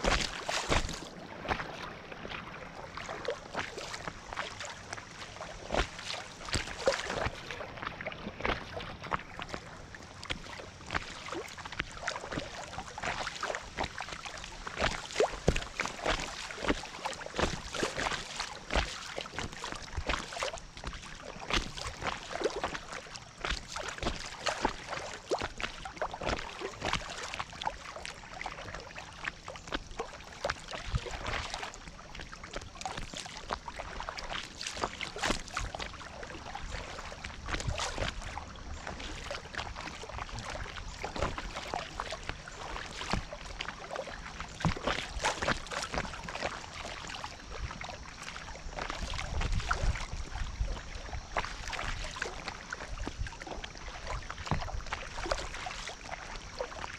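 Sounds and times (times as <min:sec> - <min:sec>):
rushing floodwater: 0:00.0 - 0:56.9
water splashing against kayak: 0:00.0 - 0:56.9.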